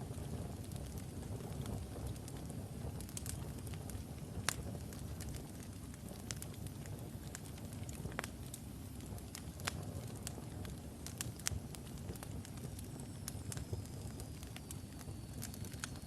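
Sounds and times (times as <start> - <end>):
fire crackling and popping: 0.0 - 16.0
low rumble of flame: 0.0 - 16.0.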